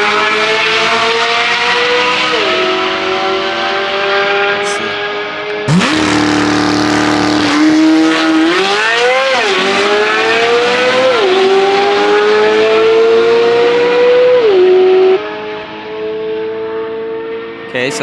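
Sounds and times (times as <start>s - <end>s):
car engines at full throttle: 0.0s - 18.0s.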